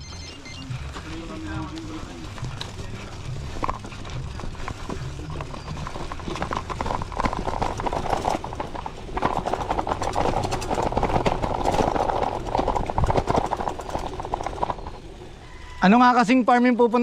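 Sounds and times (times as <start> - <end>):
tyres crunching on loose stones: 0.0 - 15.9
bike rattling over bumps: 0.0 - 16.0.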